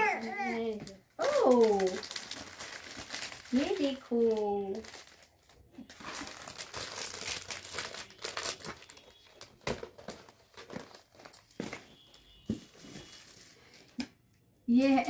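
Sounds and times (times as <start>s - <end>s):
gift wrapping crinkling: 0.4s - 14.1s.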